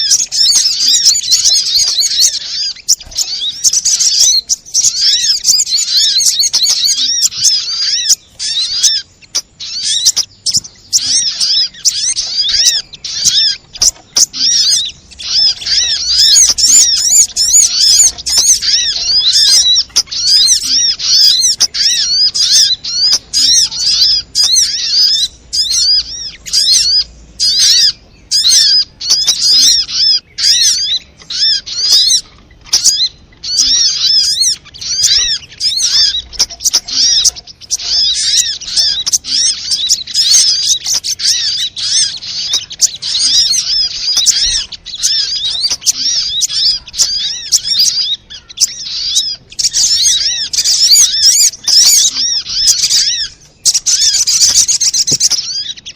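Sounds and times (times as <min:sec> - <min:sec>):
bird chirping and trilling: 0:00.0 - 0:55.9.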